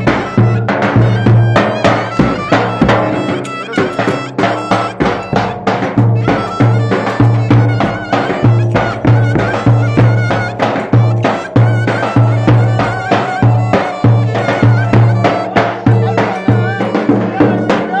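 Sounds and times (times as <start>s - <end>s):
quick steady drumbeat: 0.0s - 18.0s
reedy wind melody: 0.0s - 18.0s.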